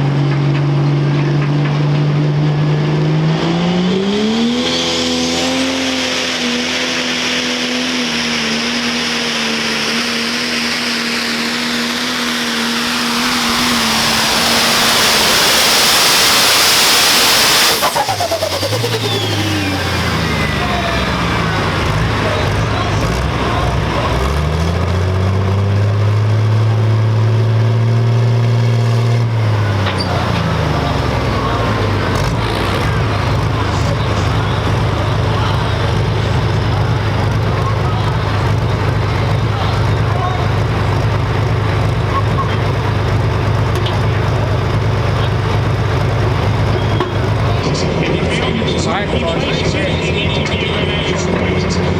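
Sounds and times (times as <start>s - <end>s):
tractor engine running hard: 0.0s - 51.9s.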